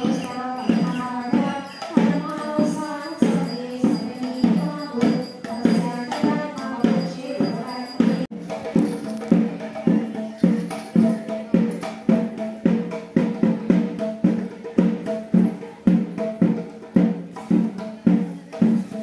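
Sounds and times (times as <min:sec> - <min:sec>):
pitched drum beat: 0:00.0 - 0:19.0.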